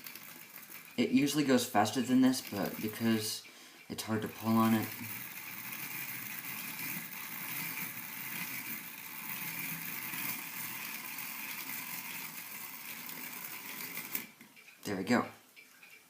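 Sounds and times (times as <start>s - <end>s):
clock gears whirring: 0.0s - 14.7s.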